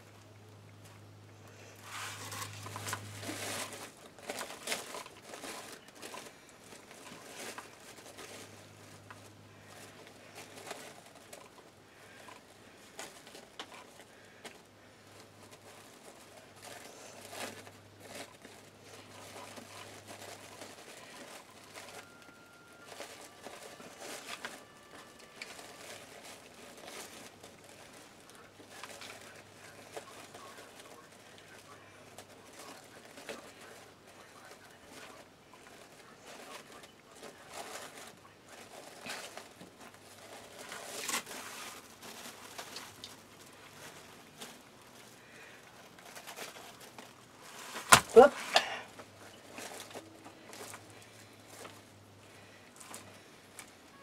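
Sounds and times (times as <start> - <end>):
faint low hum: 0.0 - 54.0
plastic mesh rustling and crinkling: 0.0 - 54.0.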